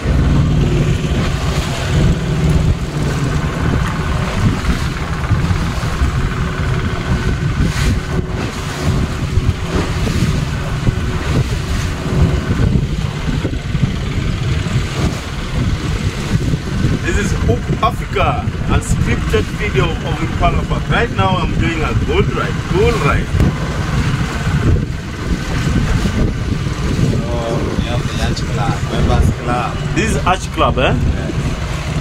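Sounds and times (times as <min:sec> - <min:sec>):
boat over choppy water: 0:00.0 - 0:32.0
outboard motor running: 0:00.0 - 0:32.0.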